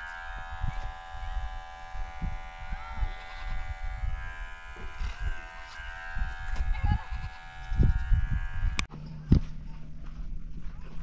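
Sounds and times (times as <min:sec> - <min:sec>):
electric hair clippers buzzing: 0:00.0 - 0:08.9.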